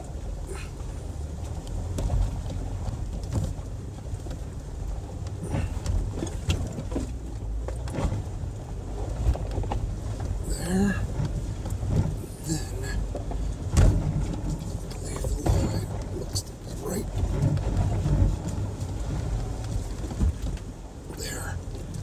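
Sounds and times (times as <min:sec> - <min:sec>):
engine rumble inside vehicle: 0:00.0 - 0:22.0
knocks and clunks over rocks: 0:00.0 - 0:22.0.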